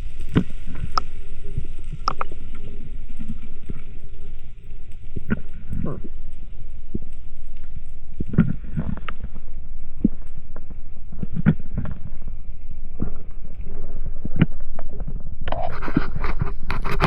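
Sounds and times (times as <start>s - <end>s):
muffled underwater rumble: 0.0s - 17.0s
water splashing and gurgling: 0.0s - 17.0s.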